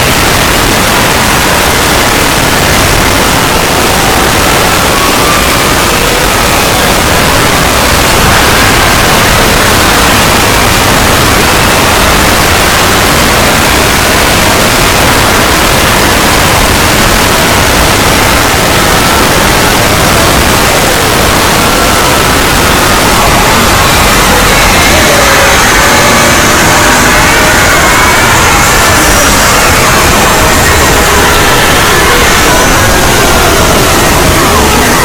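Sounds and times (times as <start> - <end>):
loud static noise: 0.0 - 35.0.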